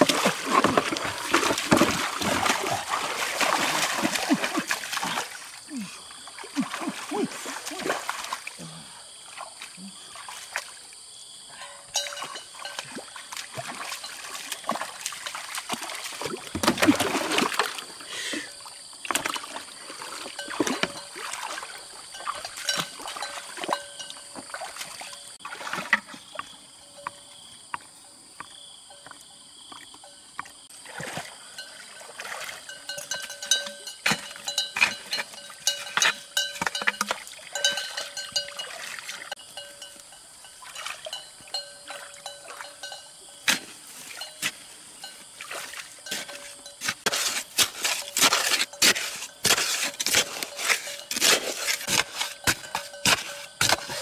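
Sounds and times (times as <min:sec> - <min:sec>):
water splashing in stream: 0:00.0 - 0:11.0, 0:11.8 - 0:18.0, 0:18.6 - 0:26.5, 0:30.4 - 0:54.0.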